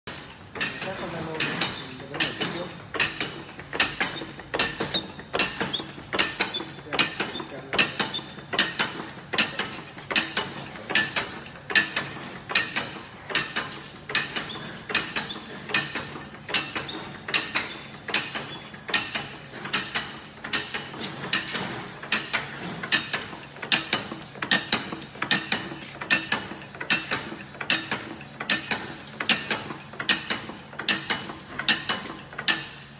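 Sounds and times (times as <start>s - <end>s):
press machine clacking: 0.1s - 32.9s.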